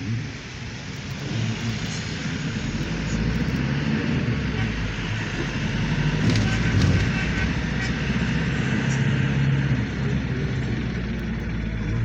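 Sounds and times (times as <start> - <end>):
low engine hum: 0.0 - 12.0
surrounding vehicles noise: 0.0 - 12.0.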